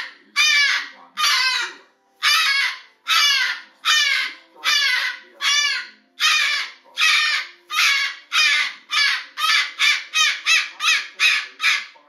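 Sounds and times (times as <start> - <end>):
cockatoo screaming: 0.0 - 12.0.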